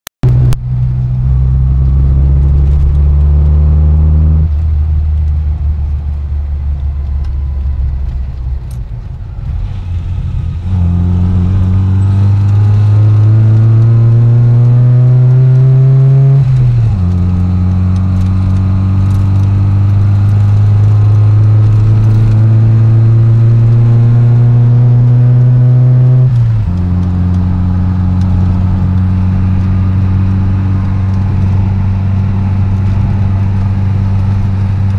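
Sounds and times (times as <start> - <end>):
car engine accelerating and cruising: 0.2 - 34.9.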